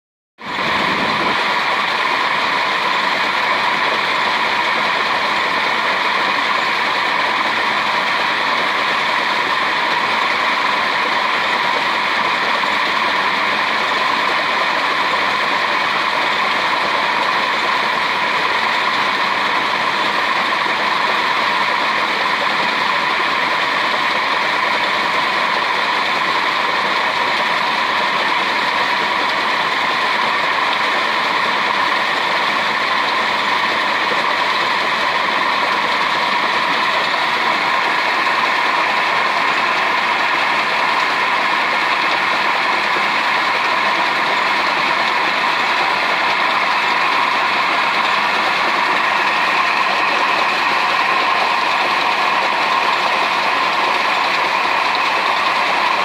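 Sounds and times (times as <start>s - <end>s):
water-driven pulley whirring: 0.4s - 56.0s.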